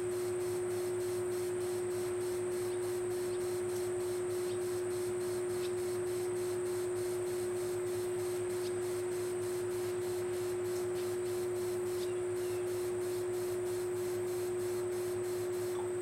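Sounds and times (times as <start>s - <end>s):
steady hum: 0.0s - 16.0s
insect chirring: 0.1s - 15.9s.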